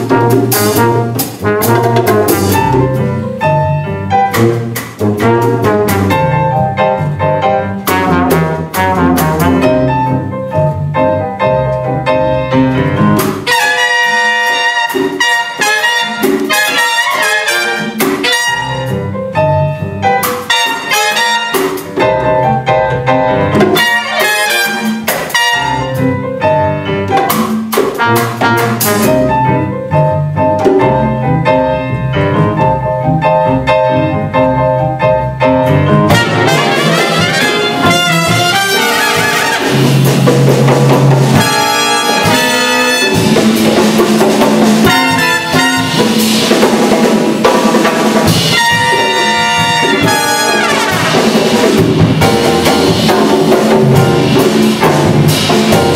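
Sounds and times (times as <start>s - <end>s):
conga and drum strikes: 0.0s - 11.2s, 12.1s - 31.7s, 34.6s - 55.9s
jazz orchestra playing: 0.0s - 55.9s.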